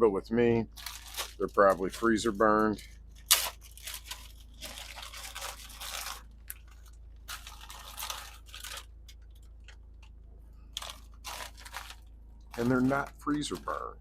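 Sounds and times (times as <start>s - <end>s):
plastic bag crinkling: 0.7s - 14.0s.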